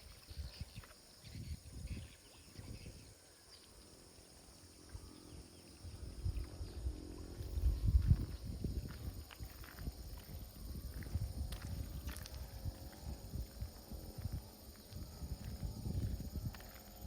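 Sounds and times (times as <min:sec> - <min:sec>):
footsteps outdoors: 0:00.0 - 0:01.6, 0:04.8 - 0:17.0
faint steady hum: 0:00.0 - 0:17.0.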